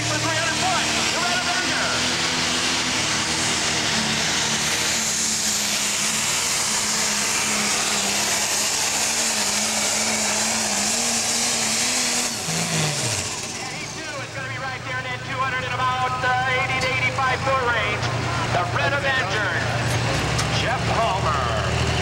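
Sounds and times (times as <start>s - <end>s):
diesel tractor engine roaring: 0.0s - 22.0s.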